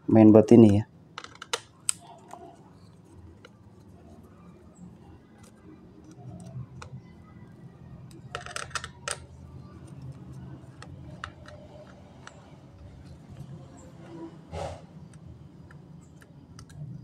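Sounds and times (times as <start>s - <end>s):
small laptop parts clicking: 0.6s - 14.1s, 15.0s - 17.0s.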